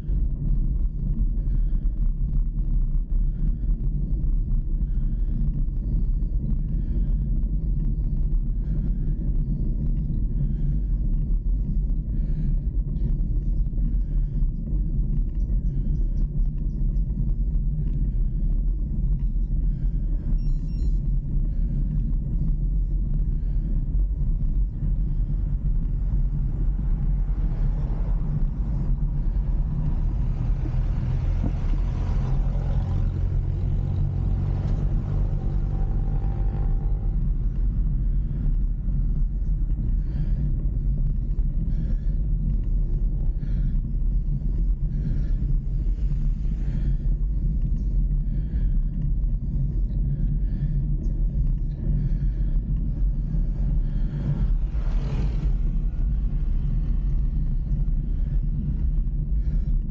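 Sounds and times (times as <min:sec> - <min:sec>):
road and wind noise: 0:00.0 - 0:59.9
vehicle engine drone: 0:00.0 - 0:59.9.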